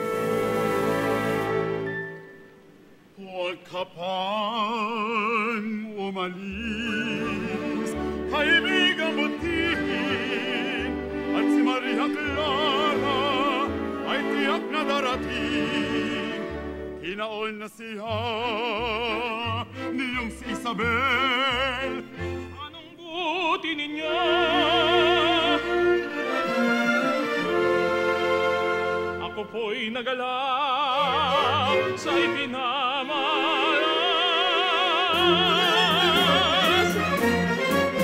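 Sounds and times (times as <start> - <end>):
orchestra playing: 0.0 - 2.9, 6.6 - 17.2, 18.6 - 29.8, 31.0 - 38.0
male opera voices singing: 3.2 - 38.0.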